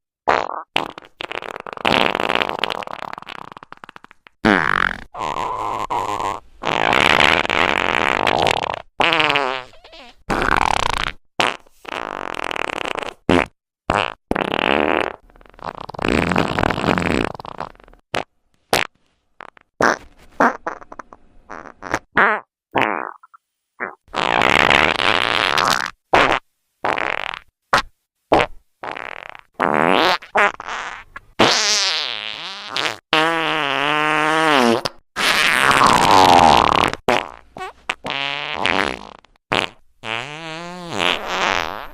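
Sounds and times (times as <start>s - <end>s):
fart sounds: 0.2s - 41.9s.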